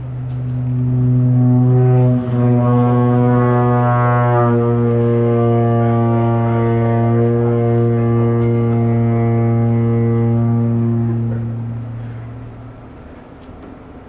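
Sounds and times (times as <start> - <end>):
drum feedback drone: 0.0 - 13.2.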